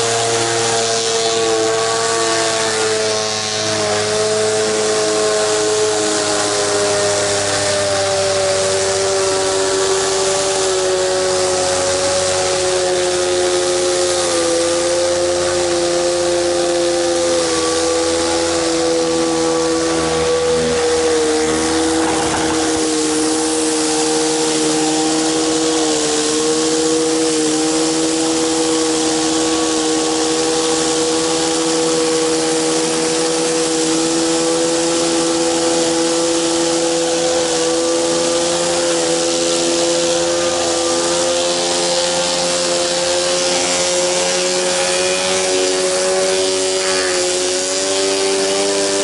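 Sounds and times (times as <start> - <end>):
pressure washer engine running: 0.0 - 49.0
water spray hissing: 0.0 - 49.0.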